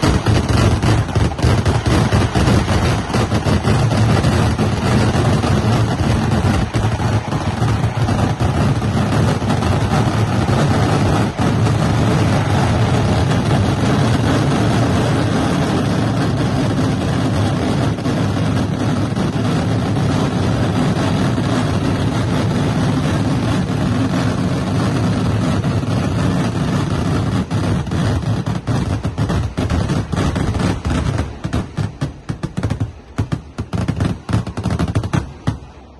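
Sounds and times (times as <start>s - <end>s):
firecrackers crackling: 0.0s - 35.9s.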